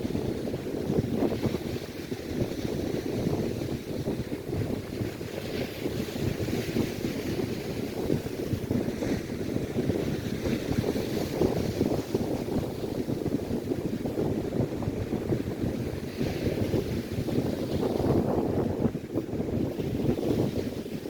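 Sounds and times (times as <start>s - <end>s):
lake waves washing on shore: 0.0s - 21.0s
wind buffeting microphone: 0.0s - 21.0s.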